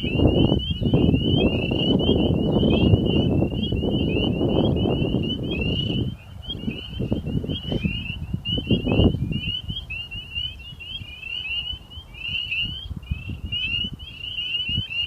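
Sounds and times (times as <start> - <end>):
chorus of high animal chirps: 0.0 - 15.0.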